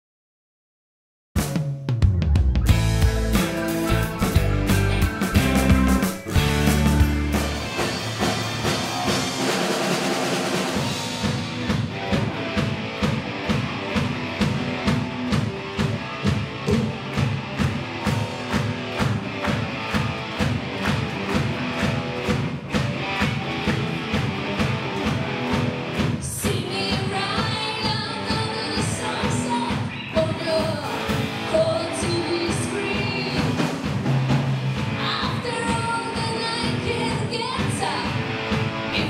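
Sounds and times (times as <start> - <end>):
bass guitar: 1.4 - 39.0
driving drum beat: 1.4 - 39.0
electric guitars: 2.5 - 39.0.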